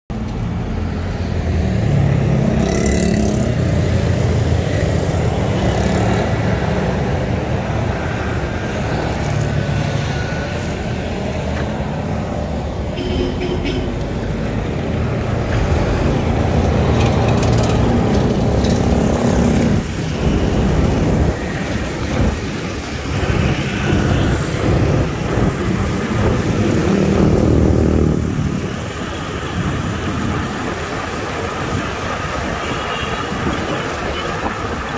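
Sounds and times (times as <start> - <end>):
cars and motorcycles passing: 0.2 - 34.9.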